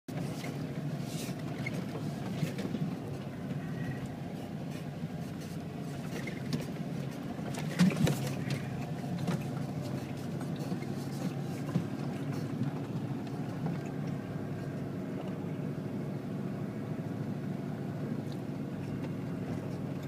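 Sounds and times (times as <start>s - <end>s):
engine running under load: 0.1s - 20.0s.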